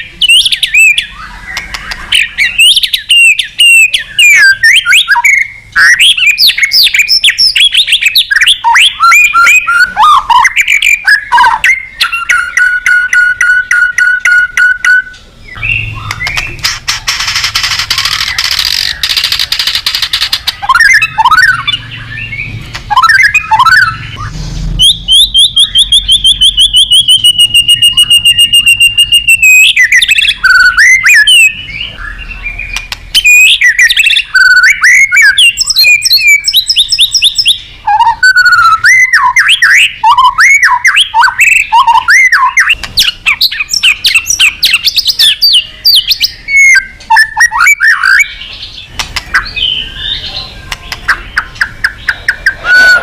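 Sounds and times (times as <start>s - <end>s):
songbird singing varied song: 0.0s - 16.7s, 17.6s - 53.0s.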